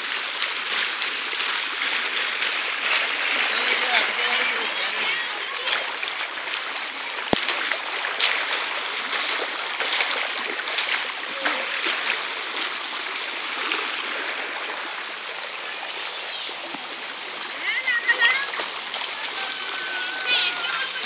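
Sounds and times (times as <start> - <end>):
water rushing down dirt road: 0.0 - 21.0.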